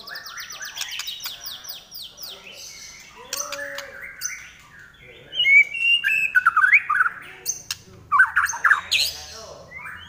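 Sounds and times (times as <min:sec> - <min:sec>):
bird singing whistled song: 0:00.0 - 0:07.2, 0:08.1 - 0:10.0.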